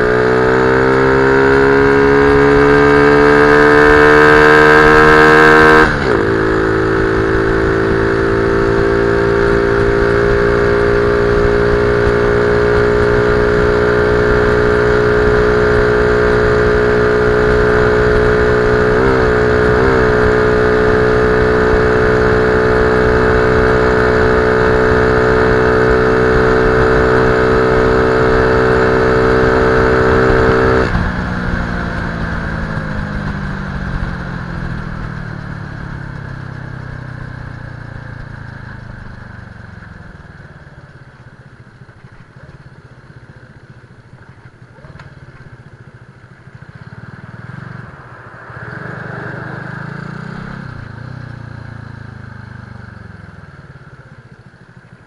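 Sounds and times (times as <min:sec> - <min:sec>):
motorcycle coasting: 0:00.0 - 0:55.0
motorcycle engine at high revs: 0:00.0 - 0:55.0.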